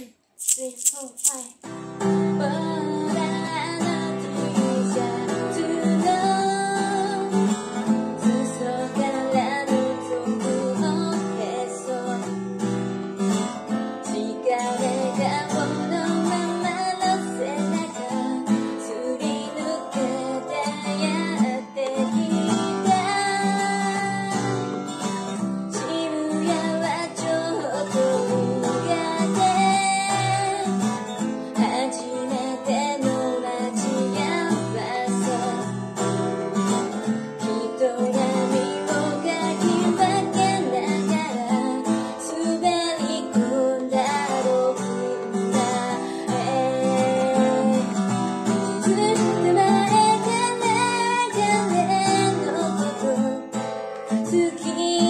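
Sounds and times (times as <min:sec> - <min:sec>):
woman singing pop song: 0:00.0 - 0:12.7, 0:13.9 - 0:55.0
acoustic guitar strumming: 0:01.6 - 0:55.0.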